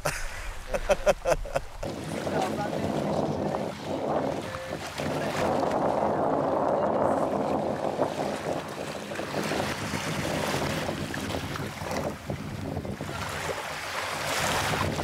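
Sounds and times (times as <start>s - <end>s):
small waves lapping: 0.0s - 15.0s
wind on microphone: 0.0s - 15.0s.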